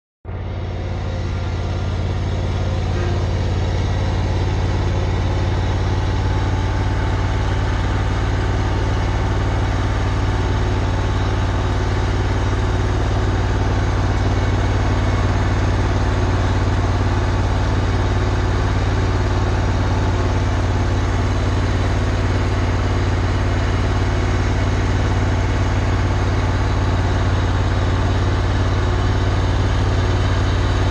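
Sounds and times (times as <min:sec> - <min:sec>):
motor droning: 0:00.3 - 0:30.9.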